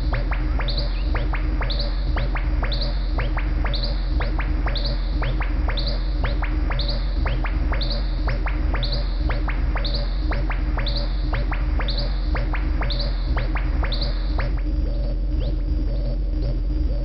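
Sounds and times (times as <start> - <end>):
bright rising electronic blip: 0.0 - 16.2
downward-sweeping electronic chirps: 0.0 - 17.0
low synthesizer drone: 0.0 - 17.0.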